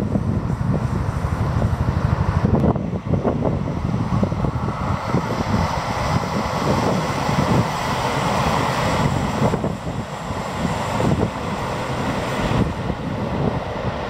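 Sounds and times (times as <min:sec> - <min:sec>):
train wheels rumbling on rails: 0:00.0 - 0:14.0
wind gusting on microphone: 0:00.0 - 0:14.0.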